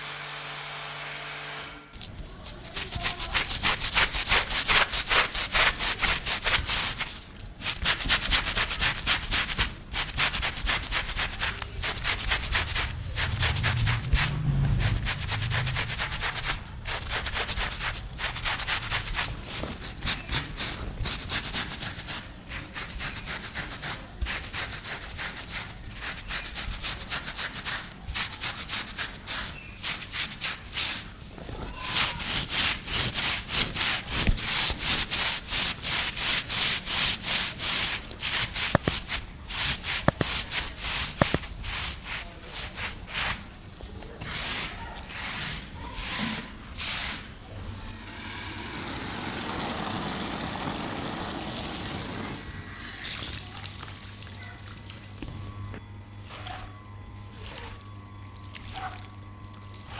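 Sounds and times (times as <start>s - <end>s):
stiff brush scrubbing rug: 2.0s - 54.6s, 56.2s - 57.9s.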